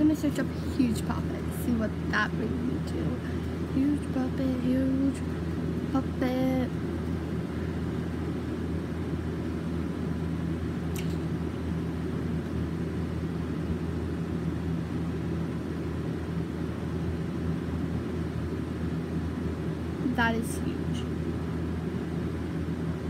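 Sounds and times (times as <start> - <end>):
low hum and rumble: 0.0 - 23.0.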